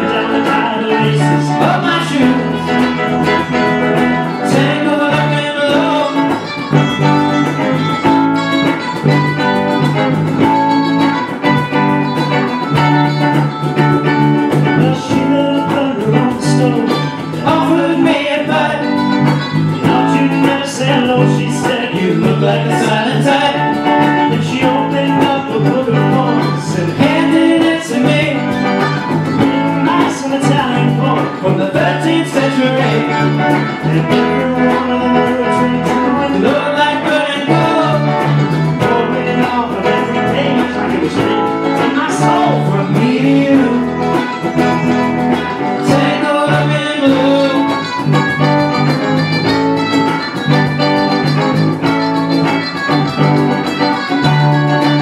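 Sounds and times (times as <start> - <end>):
folk band playing: 0.0 - 55.0
repeating bass line: 0.0 - 55.0.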